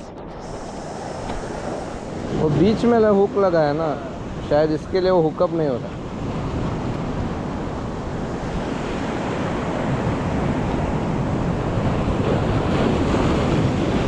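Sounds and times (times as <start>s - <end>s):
surf washing over rocks: 0.0s - 14.0s
wind on microphone: 0.0s - 14.0s.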